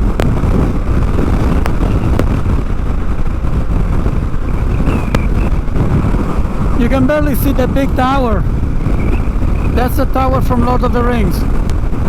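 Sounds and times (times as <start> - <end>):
motorcycle riding noise: 0.0 - 12.0
wind buffeting microphone: 0.0 - 12.0.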